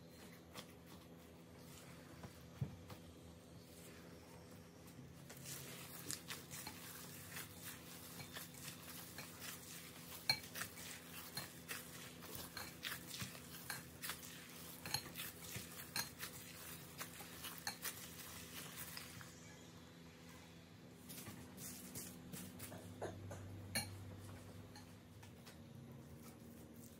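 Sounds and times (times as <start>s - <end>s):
dough squishing: 0.1s - 19.7s, 20.9s - 26.9s.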